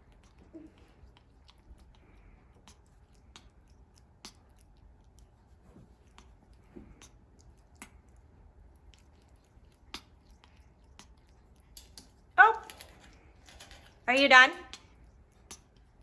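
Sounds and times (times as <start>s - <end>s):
parrot beak chewing grape: 0.0s - 16.0s.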